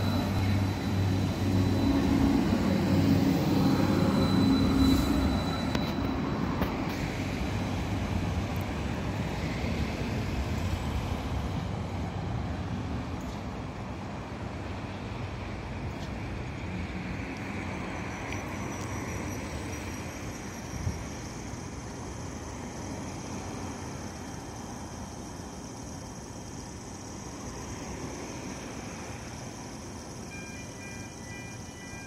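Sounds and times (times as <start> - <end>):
high-pitched whine: 0.0 - 11.6, 17.1 - 32.0
tram running over track: 0.0 - 32.0.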